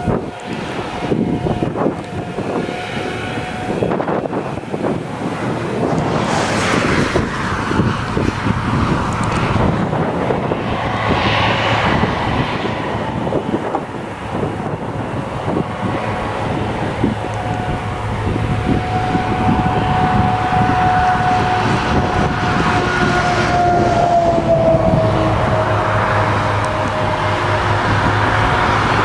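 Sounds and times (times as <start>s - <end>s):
broad rushing noise: 0.0s - 29.0s
forage harvester drone: 0.0s - 29.0s.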